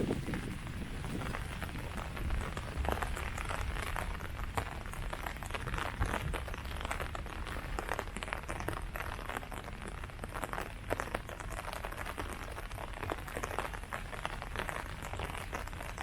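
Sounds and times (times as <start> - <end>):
low steady rumble: 0.0 - 16.0
rain pattering on leaves: 0.0 - 16.0.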